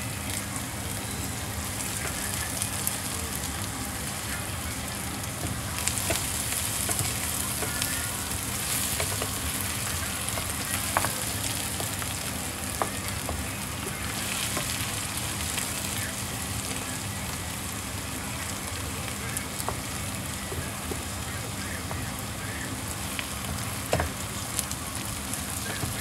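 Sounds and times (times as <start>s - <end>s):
food sizzling in frying pan: 0.0s - 26.0s
oil popping and crackling: 0.1s - 26.0s.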